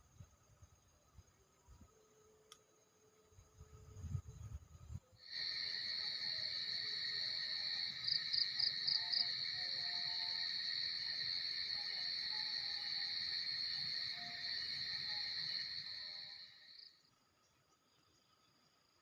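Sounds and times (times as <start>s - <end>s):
shrill insect chorus: 2.8s - 18.7s.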